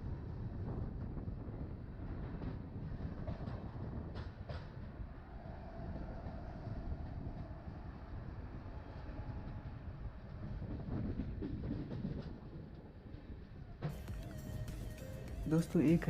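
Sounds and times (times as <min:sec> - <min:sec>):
train coaches rumbling on track: 0:00.0 - 0:16.0.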